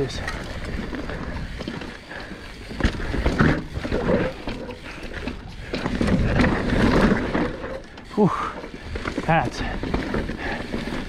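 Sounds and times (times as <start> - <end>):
bike rattling: 0.0 - 11.0
bike tyres scrabbling on dirt: 0.0 - 11.0
rider breathing hard and grunting: 0.0 - 11.0.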